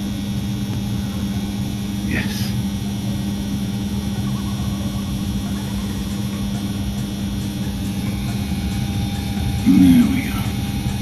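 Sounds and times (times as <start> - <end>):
boiler humming: 0.0 - 11.0.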